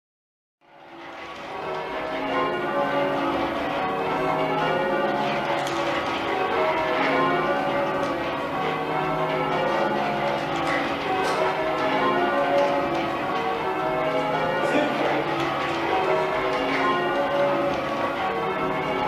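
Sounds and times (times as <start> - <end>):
church bells change ringing: 0.6 - 19.0.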